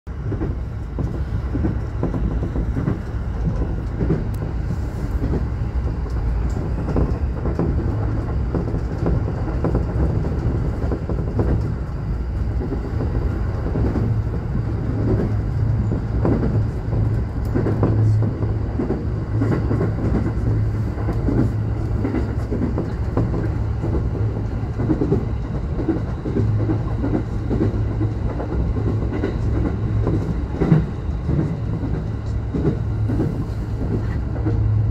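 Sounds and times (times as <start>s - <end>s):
electric train humming: 0.1s - 34.9s
wheels clicking over rail joints: 0.2s - 34.9s.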